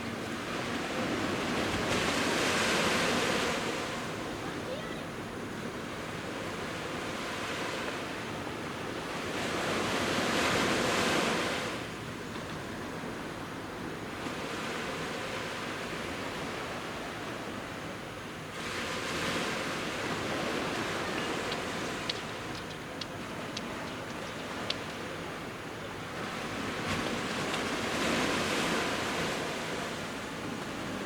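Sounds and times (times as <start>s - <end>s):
waves washing onto beach: 0.0s - 31.0s.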